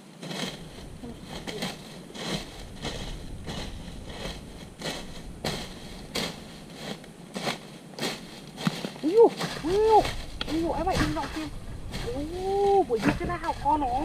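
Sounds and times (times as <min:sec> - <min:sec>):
low steady rumble: 0:00.2 - 0:14.0.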